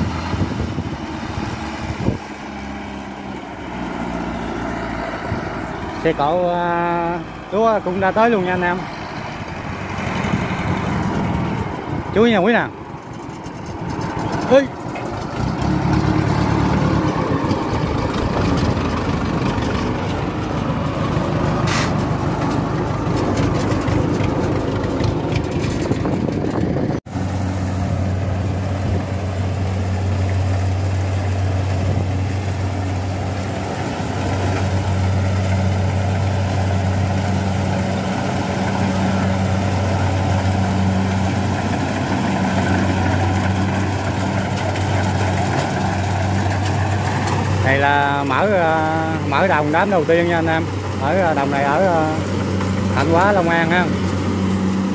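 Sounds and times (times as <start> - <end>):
combine harvester diesel engine: 0.0 - 54.9
tracked carrier engine running: 0.0 - 54.9.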